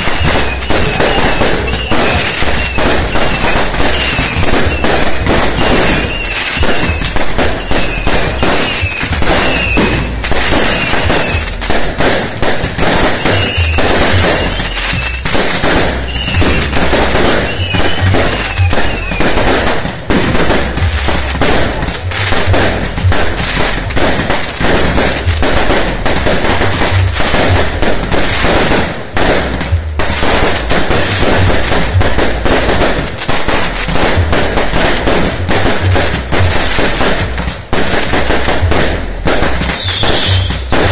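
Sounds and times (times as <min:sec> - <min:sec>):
firecrackers and fireworks banging: 0:00.0 - 0:40.9.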